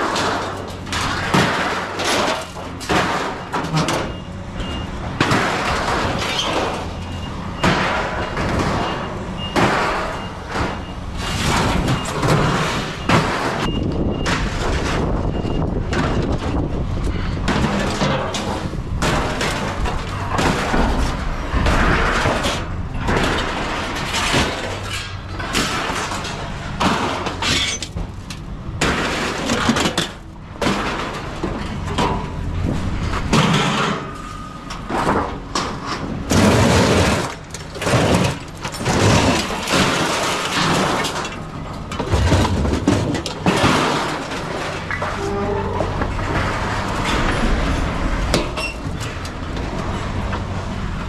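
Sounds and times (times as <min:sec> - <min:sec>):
scrap metal crashing and clattering: 0:00.0 - 0:51.0.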